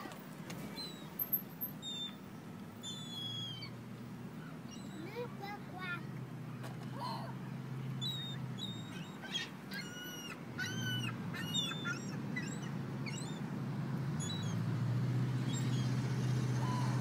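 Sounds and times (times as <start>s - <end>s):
gulls calling: 0.0s - 13.5s, 15.4s - 17.0s.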